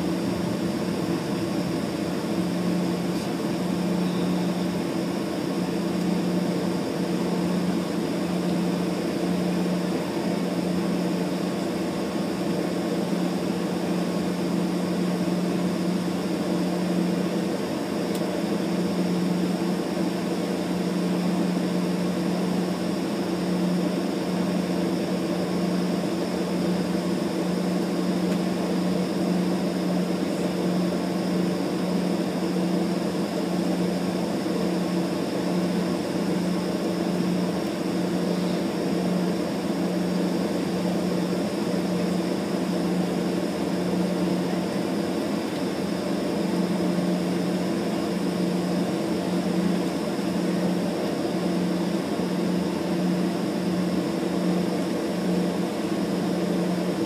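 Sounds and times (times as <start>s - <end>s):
airliner engine hum inside cabin: 0.0s - 57.0s.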